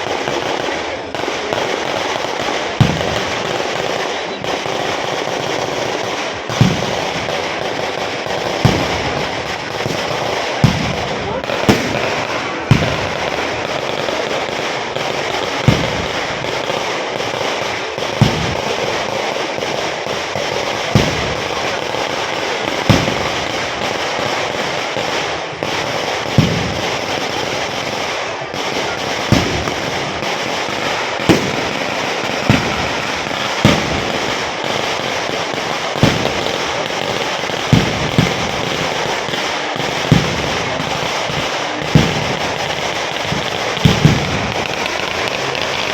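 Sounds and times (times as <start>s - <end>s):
firecrackers crackling: 0.0s - 45.9s
sharp firecracker bangs: 0.0s - 45.9s.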